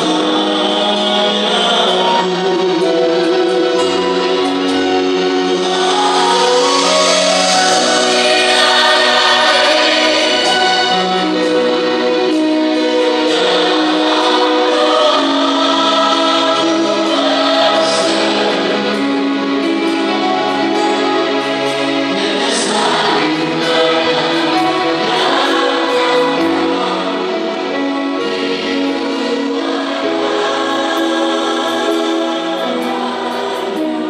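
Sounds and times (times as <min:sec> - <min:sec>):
mixed choir singing in parts: 0:00.0 - 0:34.0.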